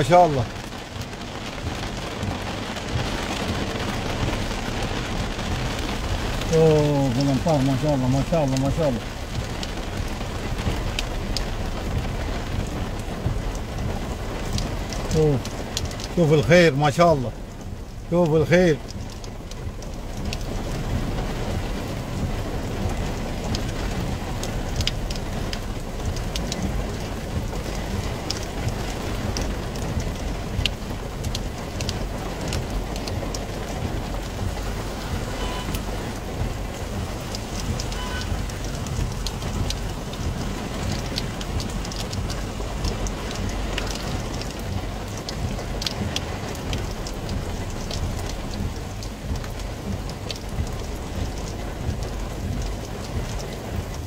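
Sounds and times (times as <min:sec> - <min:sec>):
heavy rain on car roof: 0:00.0 - 0:54.0
raindrops ticking on glass: 0:00.0 - 0:54.0.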